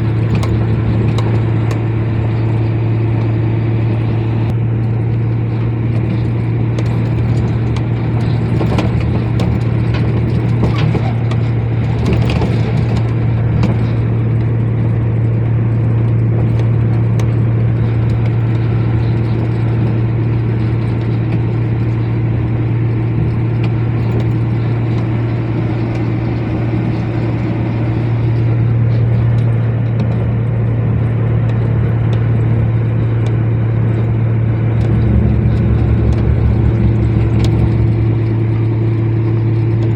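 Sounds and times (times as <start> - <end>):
road noise: 0.0 - 39.9
truck engine droning: 0.0 - 39.9.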